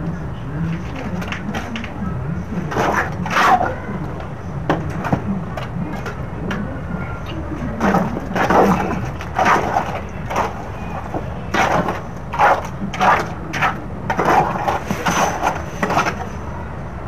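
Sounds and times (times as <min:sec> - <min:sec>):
concrete scraping and crunching: 0:00.7 - 0:06.2, 0:07.6 - 0:16.4.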